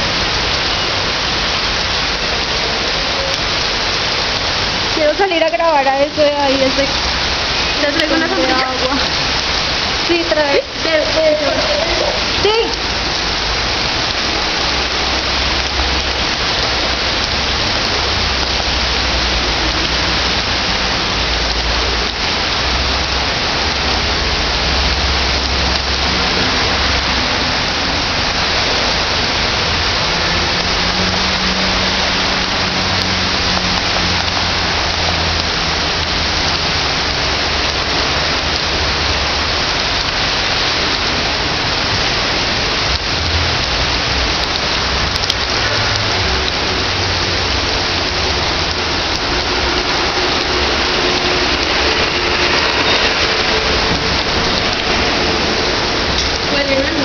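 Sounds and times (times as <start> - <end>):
cars driving through floodwater: 0.0 - 57.0
heavy rain on street: 0.0 - 57.0.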